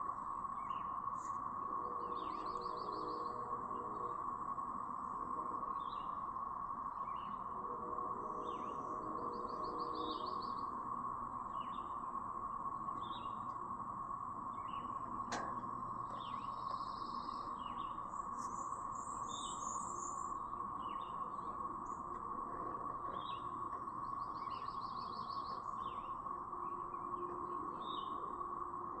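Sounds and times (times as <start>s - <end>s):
cicadas droning: 0.0s - 29.0s
songbirds chirping: 0.0s - 29.0s.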